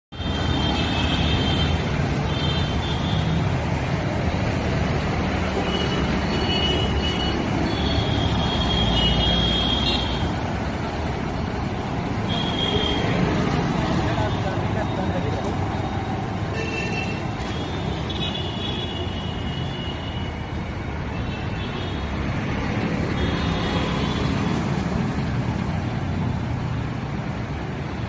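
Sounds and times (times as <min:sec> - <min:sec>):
road traffic rumble: 0:00.1 - 0:28.0.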